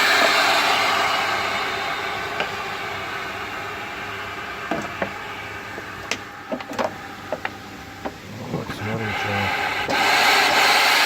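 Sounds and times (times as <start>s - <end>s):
steam hissing from hot stones: 0.0s - 11.0s.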